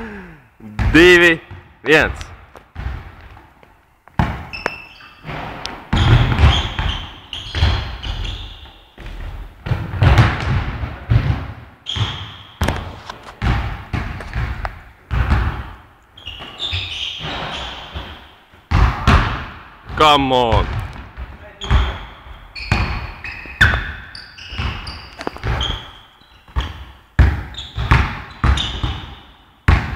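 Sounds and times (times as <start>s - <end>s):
basketball bouncing on hard court: 0.8s - 1.7s, 2.3s - 3.4s, 4.1s - 29.9s.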